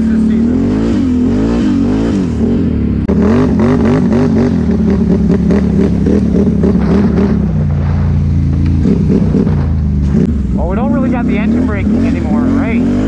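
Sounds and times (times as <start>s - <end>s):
atv engine revving: 0.0s - 13.0s.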